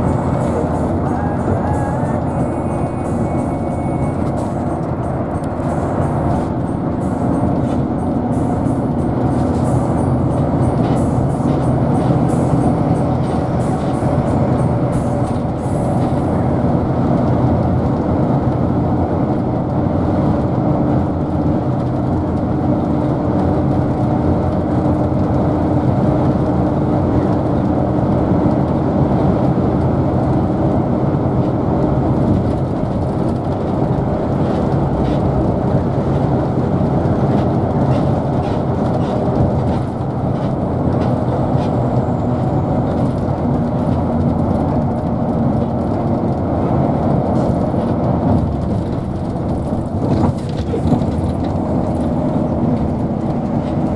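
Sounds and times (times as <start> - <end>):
vehicle road and engine noise: 0.0 - 53.9.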